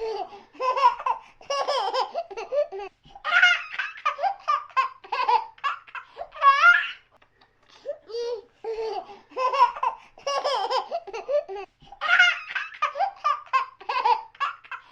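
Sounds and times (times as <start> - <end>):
baby laughing: 0.0 - 7.1, 7.8 - 14.9.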